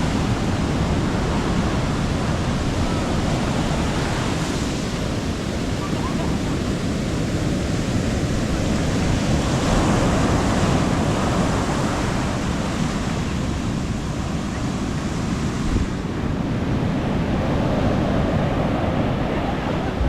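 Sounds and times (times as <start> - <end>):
sea waves breaking on beach: 0.0 - 20.0
wind rumble on microphone: 0.0 - 20.0.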